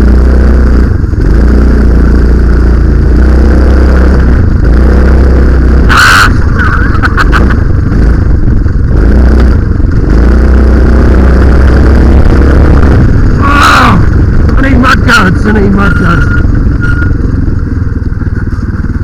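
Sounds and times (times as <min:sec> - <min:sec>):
minibike engine revving: 0:00.0 - 0:19.0.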